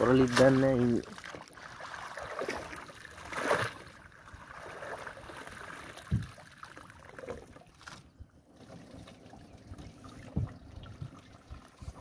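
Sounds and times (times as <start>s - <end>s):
water splashing and dripping: 0.0s - 12.0s
wet net hauled from water: 0.0s - 12.0s.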